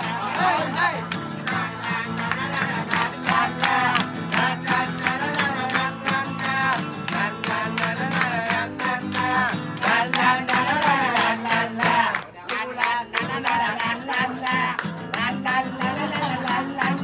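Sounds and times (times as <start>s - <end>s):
group clapping along: 0.0s - 17.0s
song sung over music: 0.0s - 17.0s.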